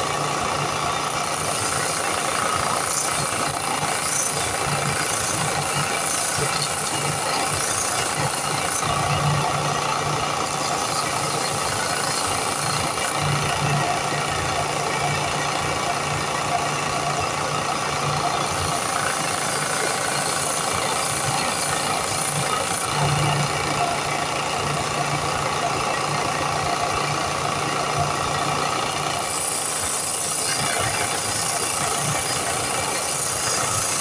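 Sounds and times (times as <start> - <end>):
power sander sanding wood: 0.0 - 24.7, 28.5 - 34.0.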